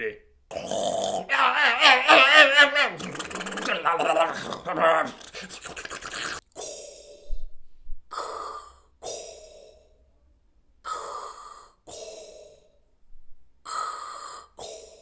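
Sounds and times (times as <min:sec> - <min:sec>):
man imitating respirator breathing: 0:00.5 - 0:10.0, 0:10.8 - 0:12.8, 0:13.6 - 0:15.0.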